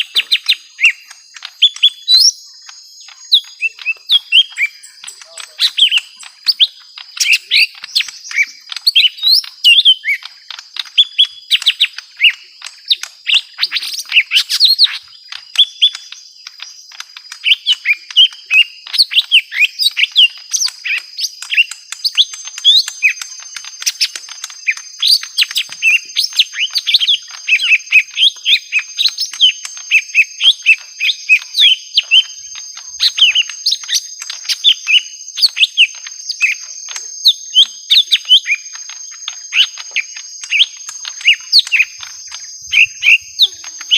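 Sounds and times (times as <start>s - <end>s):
birds chattering chirps: 0.0s - 43.9s.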